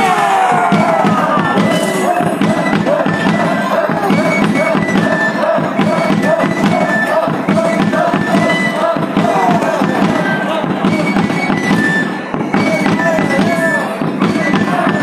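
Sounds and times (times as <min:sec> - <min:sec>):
steady percussion: 0:00.0 - 0:15.0.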